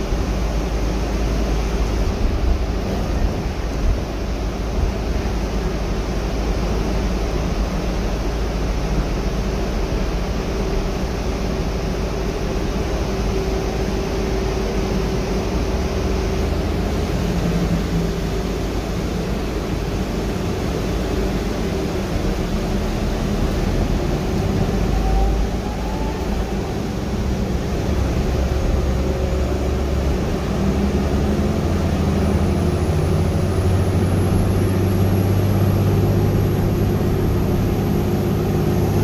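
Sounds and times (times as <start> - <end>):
bus drivetrain and road rumble: 0.0 - 39.0
faint hum: 0.0 - 39.0
faint rising whine: 0.0 - 39.0.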